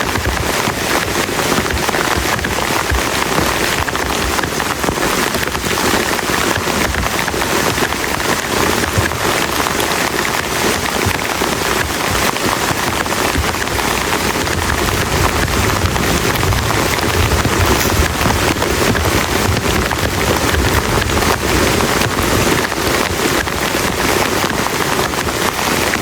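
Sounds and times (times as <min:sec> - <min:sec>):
heavy rain on plastic tarp: 0:00.0 - 0:26.0.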